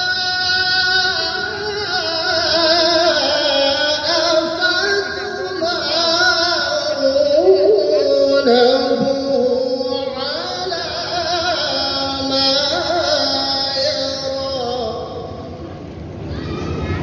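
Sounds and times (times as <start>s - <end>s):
person chanting melodically: 0.0s - 15.4s.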